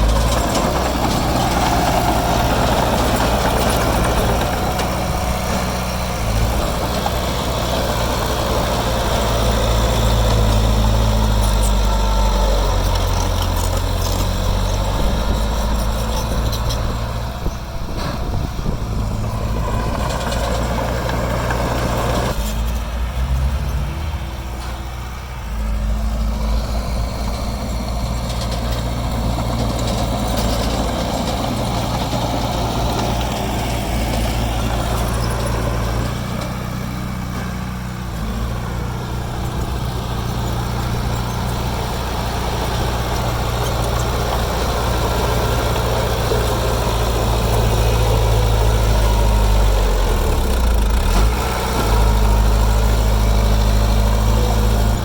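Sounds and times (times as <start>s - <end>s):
construction machine diesel engine: 0.0s - 55.0s.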